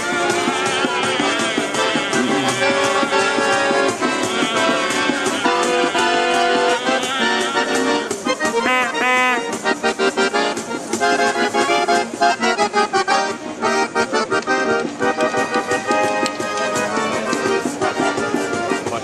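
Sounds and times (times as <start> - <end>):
accordion playing lively tune: 0.0 - 19.0
hand drum beating: 0.0 - 19.0.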